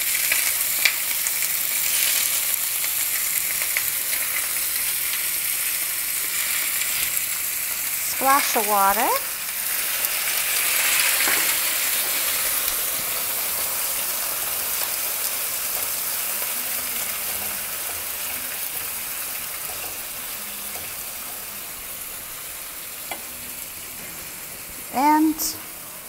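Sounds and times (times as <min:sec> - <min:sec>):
water hissing in hot frying pan: 0:00.0 - 0:26.0.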